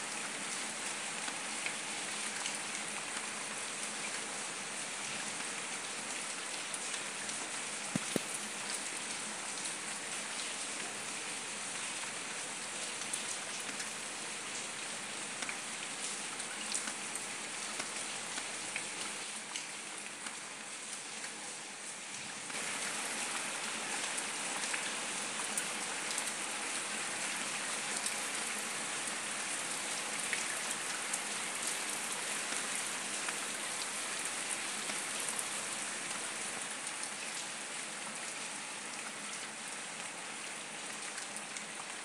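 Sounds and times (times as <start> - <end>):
rain on a paved street: 0.0 - 42.0.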